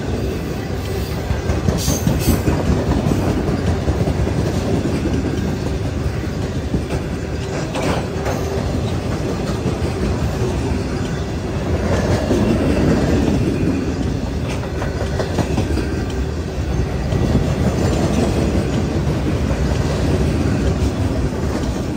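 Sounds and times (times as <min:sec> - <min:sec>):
train wheels rumbling on rail: 0:00.0 - 0:21.9
wheels clicking over rail joints: 0:00.1 - 0:21.9.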